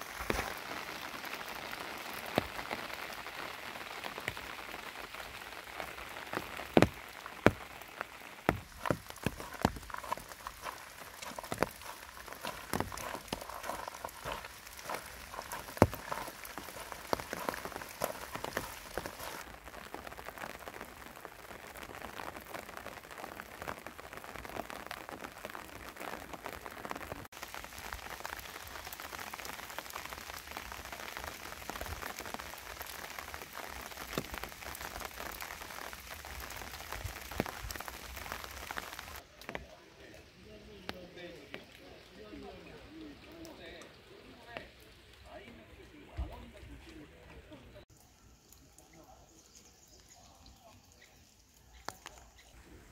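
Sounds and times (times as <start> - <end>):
rain hissing: 0.0 - 46.7, 47.8 - 52.9.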